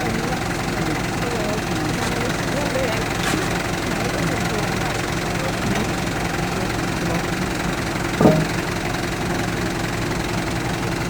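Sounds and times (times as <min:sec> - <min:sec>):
crane engine idling: 0:00.0 - 0:11.0.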